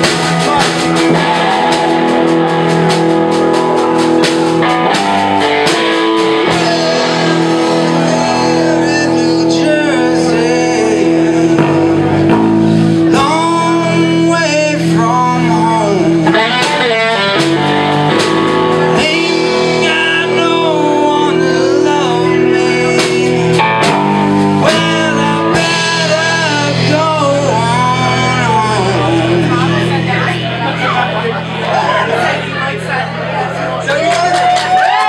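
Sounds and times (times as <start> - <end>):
bending guitar melody: 0.0 - 34.0
blues band playing: 0.0 - 35.0.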